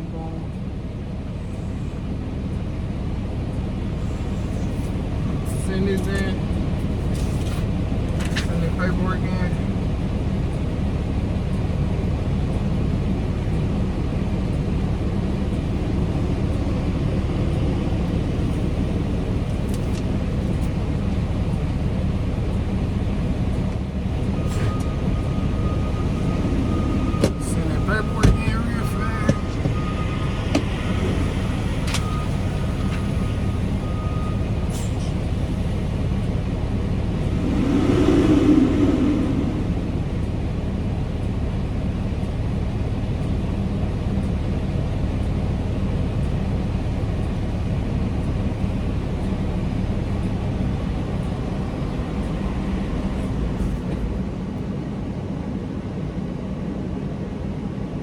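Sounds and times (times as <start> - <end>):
diesel truck engine idling: 0.0 - 54.8.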